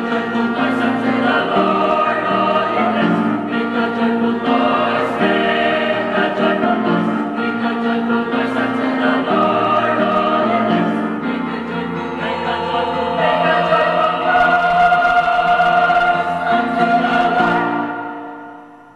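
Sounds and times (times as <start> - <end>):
mixed choir singing in harmony: 0.0 - 18.9.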